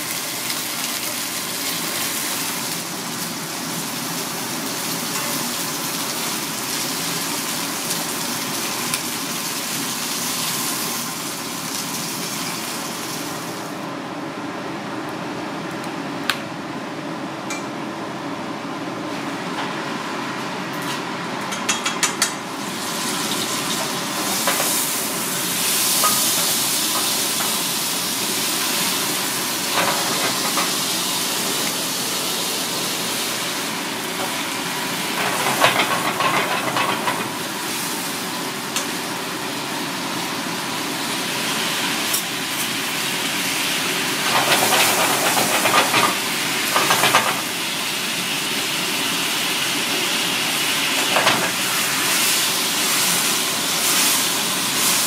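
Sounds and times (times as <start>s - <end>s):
sauce sizzling in a wok: 0.0s - 13.8s, 22.5s - 55.0s.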